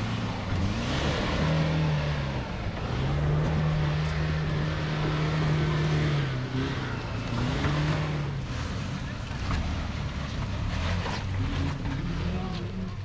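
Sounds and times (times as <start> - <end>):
vehicle engine at low revs: 0.0 - 13.0.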